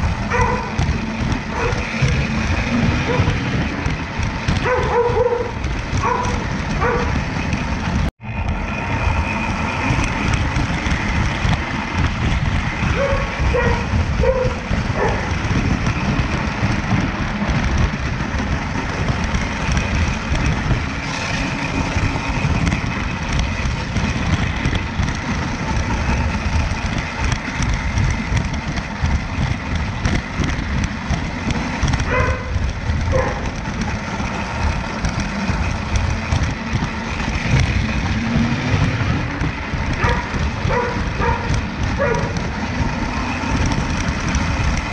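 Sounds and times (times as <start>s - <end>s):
model train wheels and motor clatter: 0.0s - 44.9s.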